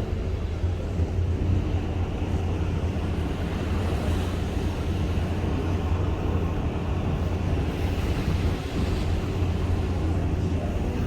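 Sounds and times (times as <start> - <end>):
boat engine drone: 0.0 - 11.0
rushing wind and water: 0.0 - 11.0.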